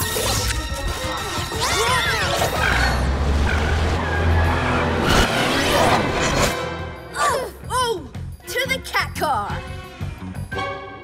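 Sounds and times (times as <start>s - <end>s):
cartoon action music: 0.0s - 11.0s.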